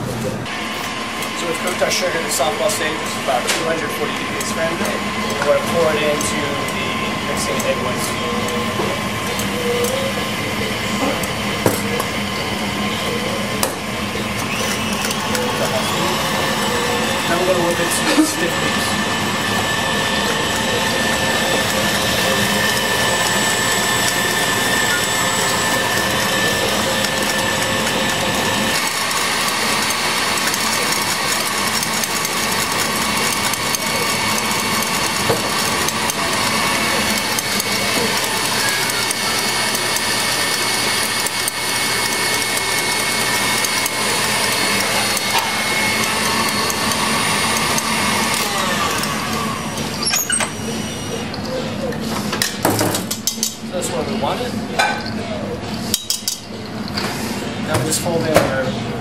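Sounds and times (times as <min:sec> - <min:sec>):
electric mixer whipping: 0:00.0 - 0:53.4.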